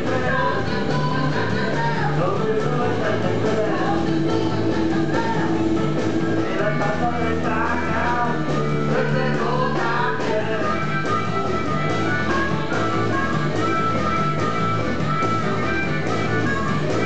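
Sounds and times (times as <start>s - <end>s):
blues band playing: 0.0s - 17.0s
harmonica wailing: 0.0s - 17.0s.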